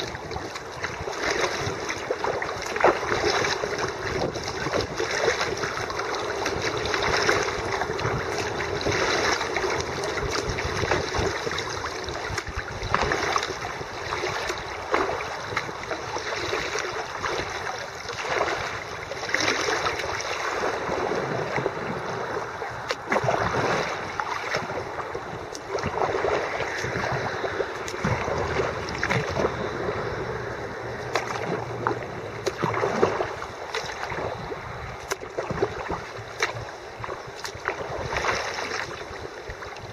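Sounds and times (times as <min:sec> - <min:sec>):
paddle splashes: 0:00.0 - 0:39.9
water rushing around kayak: 0:00.0 - 0:39.9.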